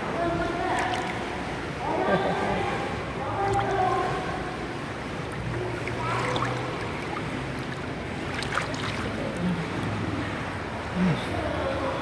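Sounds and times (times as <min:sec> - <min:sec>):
pool water noise: 0:00.0 - 0:12.0
small splashes: 0:00.5 - 0:10.7.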